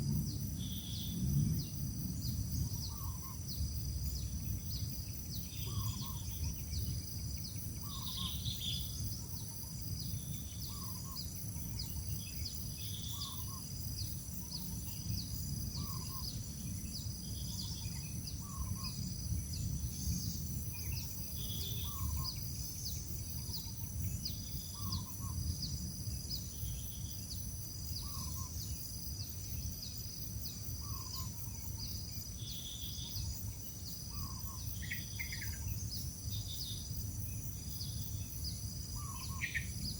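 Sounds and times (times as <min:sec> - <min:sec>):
high insect-like whine: 0:00.0 - 0:39.9.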